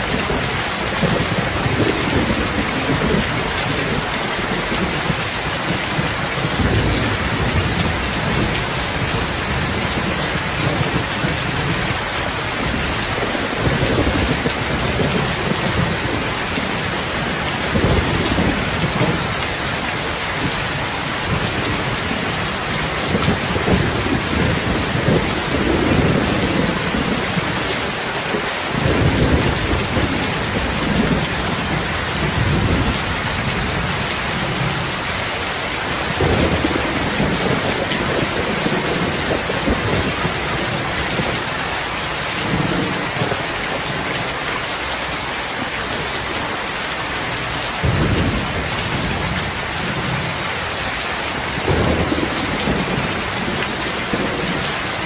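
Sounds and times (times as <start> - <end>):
thunder rumbling: 0.0 - 44.3, 47.2 - 55.0
heavy rain: 0.0 - 55.0.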